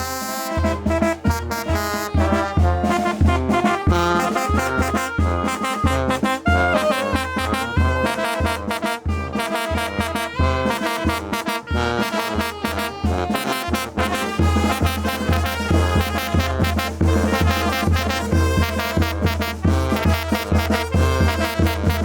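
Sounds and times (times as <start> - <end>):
brass band playing: 0.0 - 22.0.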